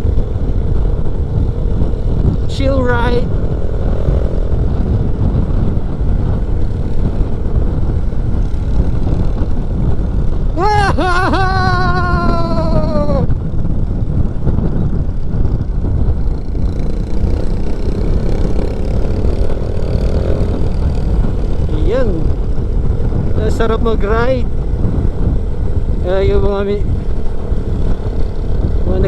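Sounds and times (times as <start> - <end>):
motorcycle cruising: 0.0 - 29.0.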